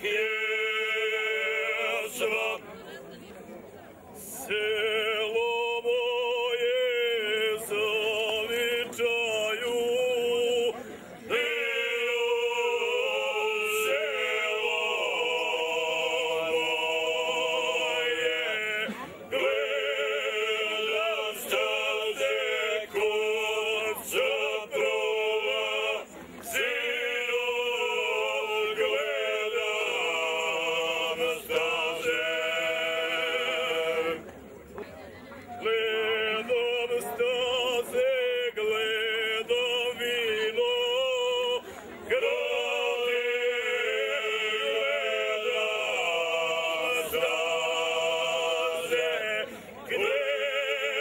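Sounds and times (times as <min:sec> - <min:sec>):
men singing unaccompanied: 0:00.0 - 0:02.6, 0:04.2 - 0:34.3, 0:35.6 - 0:51.0.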